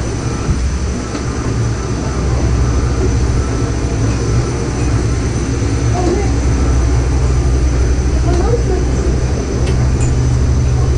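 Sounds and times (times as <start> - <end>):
low machinery rumble: 0.0 - 10.9.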